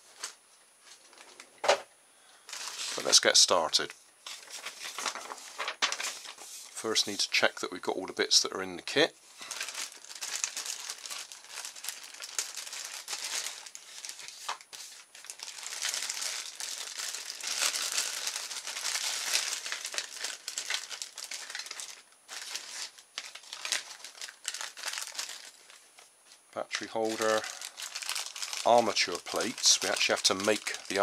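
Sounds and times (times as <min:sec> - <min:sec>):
plastic bag crinkling: 0:02.5 - 0:03.5, 0:04.3 - 0:07.5, 0:09.3 - 0:26.0, 0:26.7 - 0:31.0.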